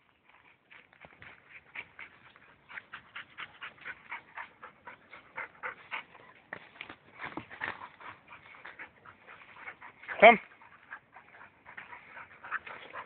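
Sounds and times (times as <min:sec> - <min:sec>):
dog panting quickly: 0:00.3 - 0:06.5, 0:07.2 - 0:13.0.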